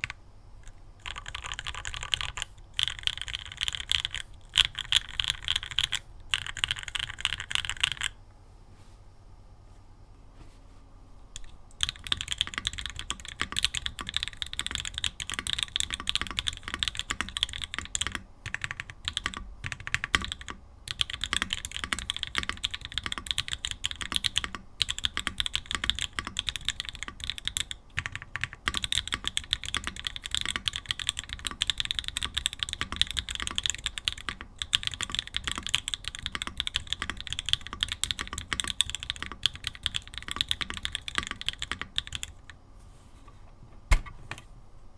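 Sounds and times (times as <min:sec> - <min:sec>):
mechanical keyboard typing: 0:01.0 - 0:08.2, 0:11.4 - 0:42.6.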